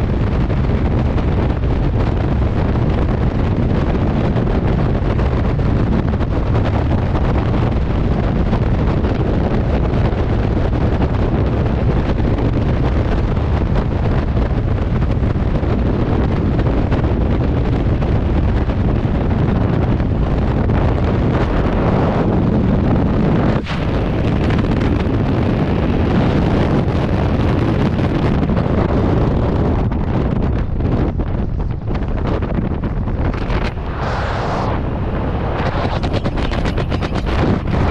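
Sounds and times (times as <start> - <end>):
wind roar on microphone: 0.0 - 37.9.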